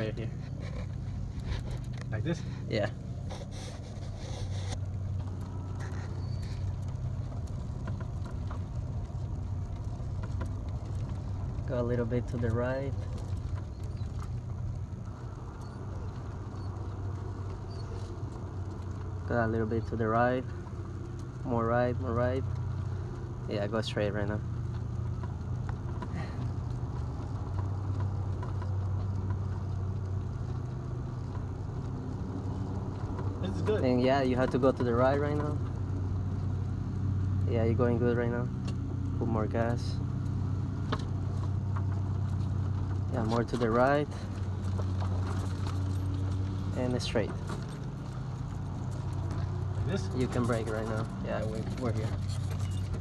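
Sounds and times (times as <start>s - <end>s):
faint ticks and rattles: 0.0s - 53.0s
golf cart humming: 0.0s - 53.0s
road and wind noise: 0.0s - 53.0s.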